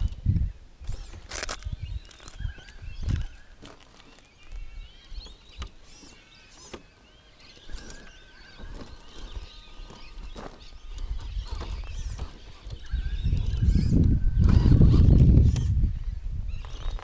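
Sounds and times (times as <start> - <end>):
birds chirping: 0.0 - 17.0
electric motor whine: 0.0 - 17.0.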